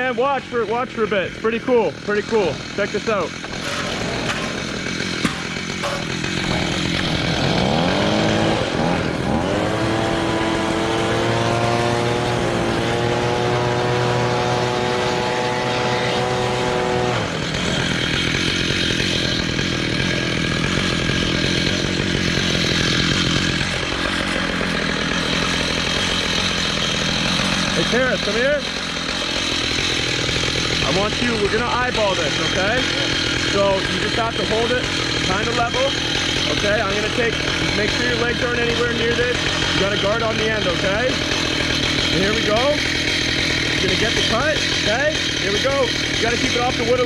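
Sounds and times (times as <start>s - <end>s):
chainsaw cutting through log: 0.0s - 47.0s
chainsaw revving: 0.0s - 47.0s.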